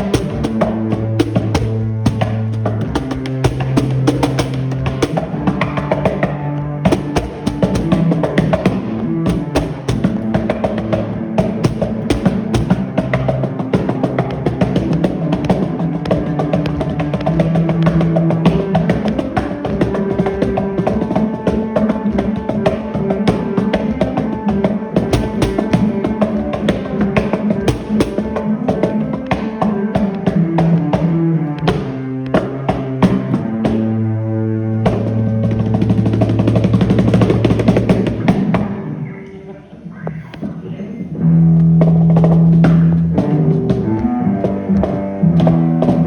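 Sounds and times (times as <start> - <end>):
drums: 0.0 - 33.9, 34.8 - 38.8, 41.7 - 46.0
plucked guitar-like instrument: 0.0 - 46.0.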